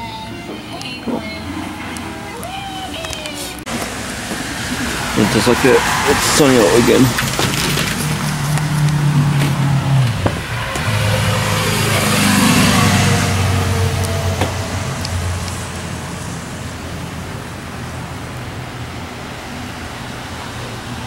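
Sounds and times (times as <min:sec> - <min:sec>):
steady background noise: 0:00.0 - 0:21.0
car passing by: 0:03.4 - 0:21.0.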